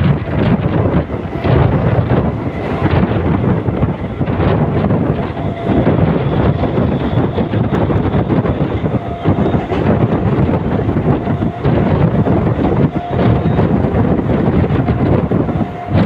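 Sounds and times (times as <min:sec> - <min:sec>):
train rumbling at speed: 0:00.0 - 0:16.0
wind rushing over microphone: 0:00.0 - 0:16.0.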